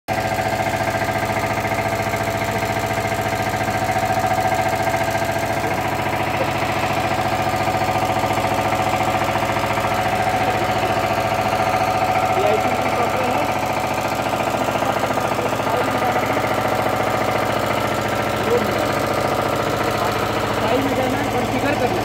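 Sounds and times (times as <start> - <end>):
diesel engine running steadily: 0.1 - 22.0.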